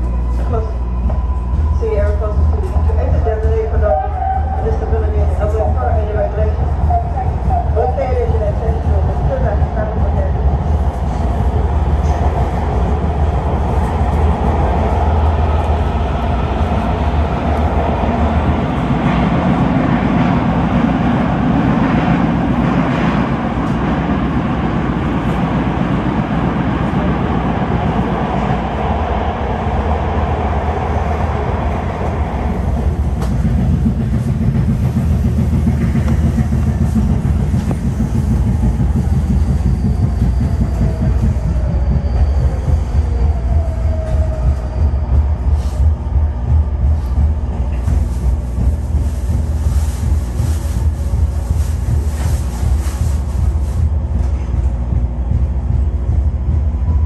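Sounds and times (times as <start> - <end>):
rumble of wheels on rail: 0.0 - 57.0.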